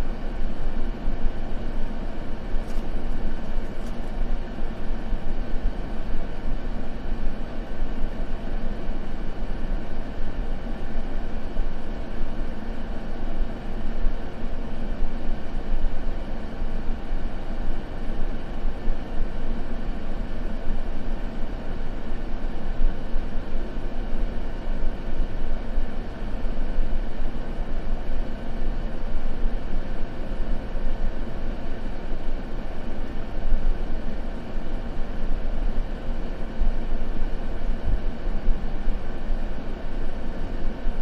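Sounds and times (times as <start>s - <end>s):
deep rumbling white noise: 0.0s - 41.0s.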